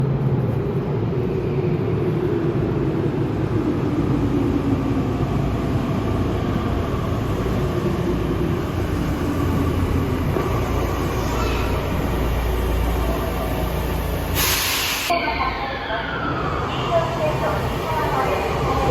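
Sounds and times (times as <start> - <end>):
electric train rumbling: 0.0 - 18.9.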